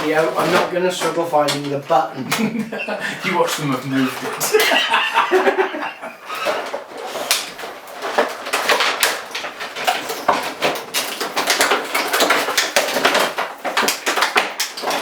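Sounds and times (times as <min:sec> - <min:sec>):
plastic packaging crackling: 0:00.0 - 0:15.0.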